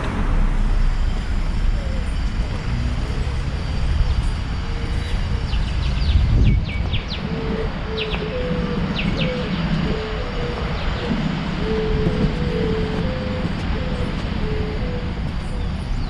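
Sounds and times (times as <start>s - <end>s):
street background rumble: 0.0s - 16.0s.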